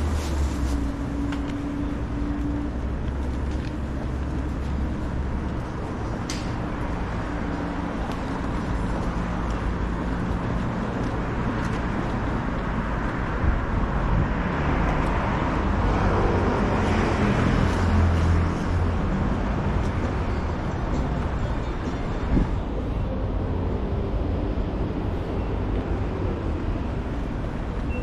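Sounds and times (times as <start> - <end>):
street traffic hum: 0.0 - 28.0.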